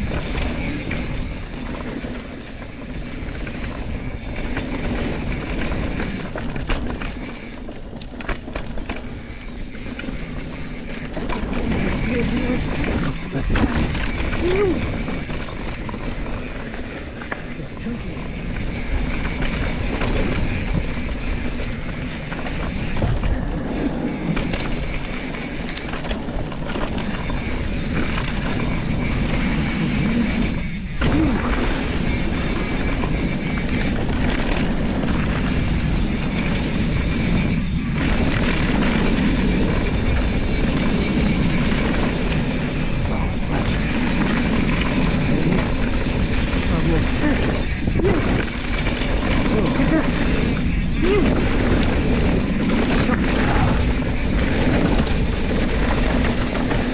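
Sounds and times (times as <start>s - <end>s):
tyres rumbling over dirt: 0.0s - 56.9s
wind buffeting microphone: 0.0s - 56.9s.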